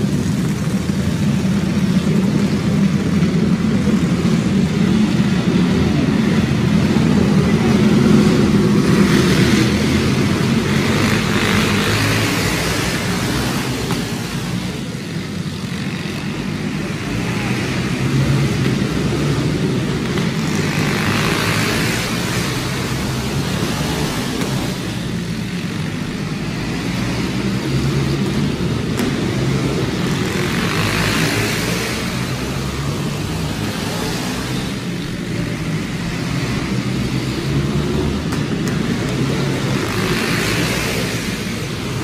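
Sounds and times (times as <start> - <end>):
go-kart engines racing: 0.0 - 42.0.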